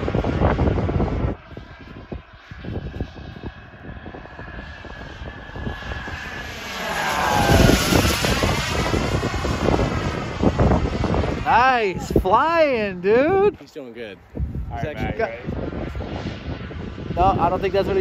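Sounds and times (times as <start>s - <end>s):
model jet turbine whine: 0.0s - 13.6s, 14.3s - 18.0s.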